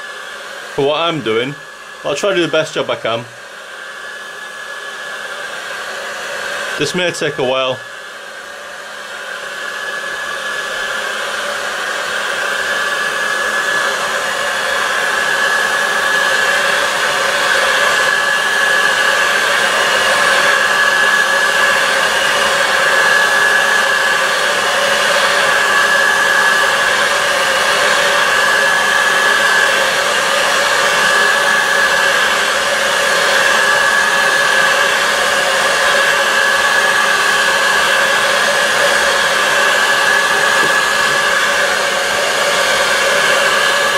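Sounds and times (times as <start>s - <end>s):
heat gun blowing with fan whine: 0.0s - 43.9s.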